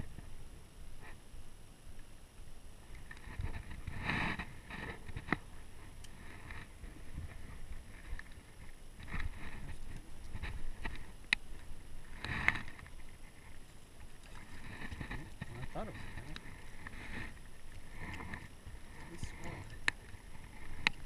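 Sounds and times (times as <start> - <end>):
low steady rumble: 0.0 - 21.0
fishing tackle clicks and rustles: 2.9 - 21.0.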